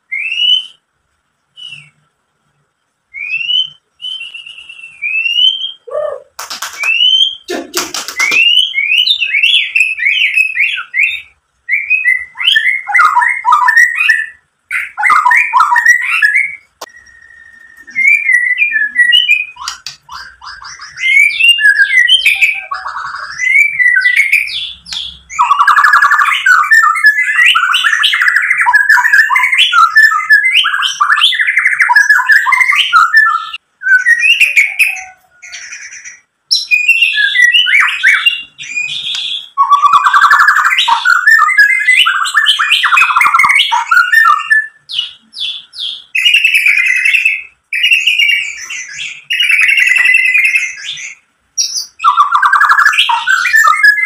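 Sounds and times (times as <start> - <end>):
bird singing whistles and trills: 0.0 - 0.9, 1.5 - 2.1, 3.1 - 7.5, 8.1 - 54.0.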